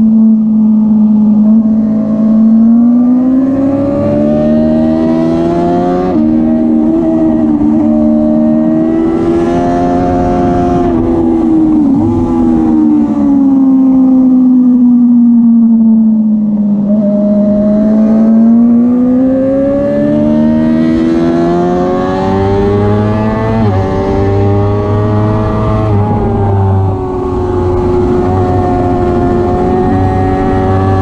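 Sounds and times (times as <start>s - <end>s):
motorbike engine at full throttle: 0.0s - 31.0s
wind rushing over microphone: 0.8s - 16.2s, 16.8s - 31.0s.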